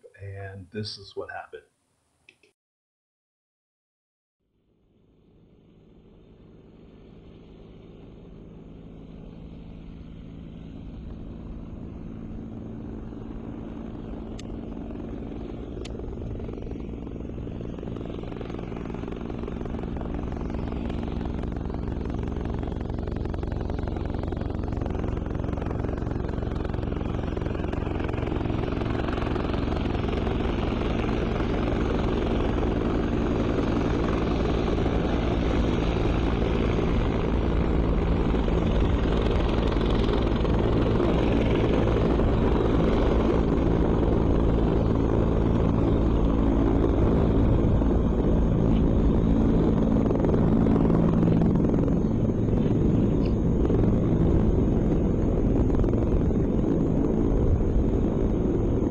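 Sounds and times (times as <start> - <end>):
distant engine drone: 4.7 - 58.9.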